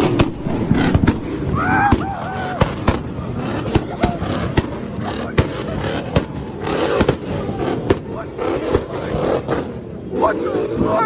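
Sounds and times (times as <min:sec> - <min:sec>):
car exhaust popping and banging: 0:00.0 - 0:09.9
crowd talking: 0:00.0 - 0:11.0.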